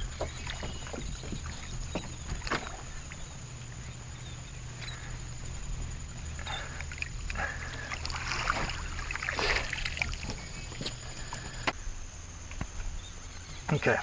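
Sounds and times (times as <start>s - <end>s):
water splashing against boat: 0.0s - 11.8s.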